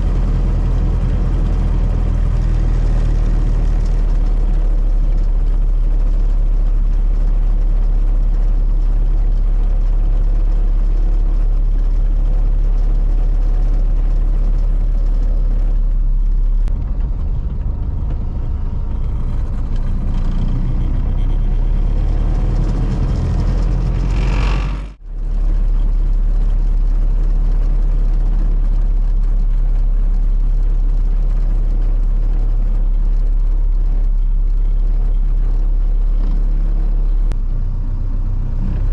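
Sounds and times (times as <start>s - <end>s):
car engine running: 0.0s - 38.9s
road and wind noise: 0.0s - 38.9s.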